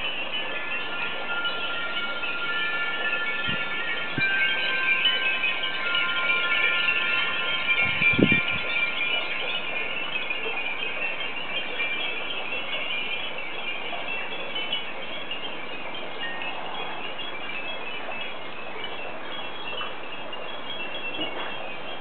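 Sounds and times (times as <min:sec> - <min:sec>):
glass wind chimes ringing: 0:00.0 - 0:22.0.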